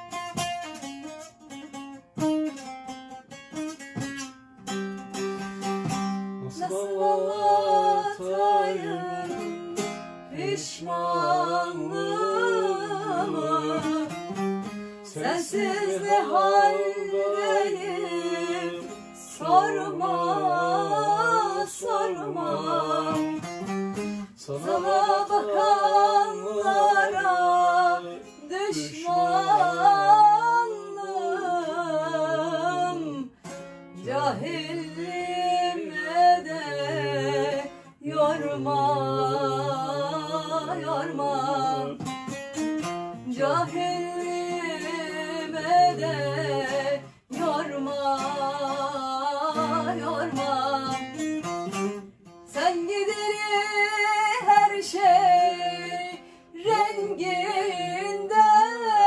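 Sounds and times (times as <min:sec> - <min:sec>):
person singing folk song: 0:00.0 - 0:59.0
plucked long-necked lute: 0:00.0 - 0:59.0.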